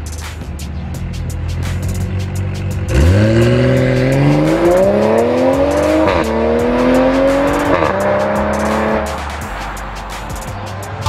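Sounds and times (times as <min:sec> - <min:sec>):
car engine accelerating hard: 0:00.4 - 0:11.0.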